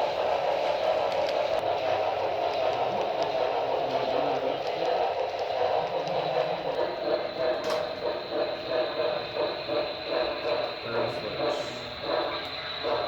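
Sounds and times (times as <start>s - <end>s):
model train running rumble: 0.0s - 13.0s.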